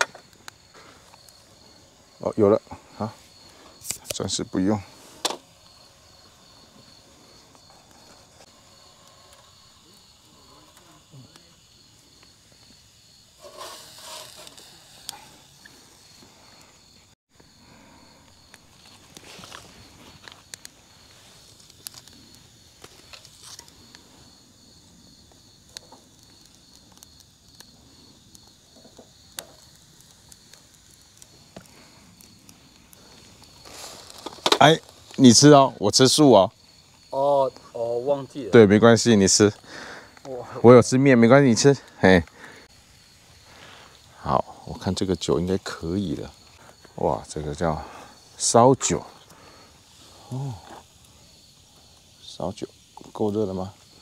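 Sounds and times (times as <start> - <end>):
insect chirping trill: 0.0 - 54.0
wood fire popping: 0.0 - 54.0.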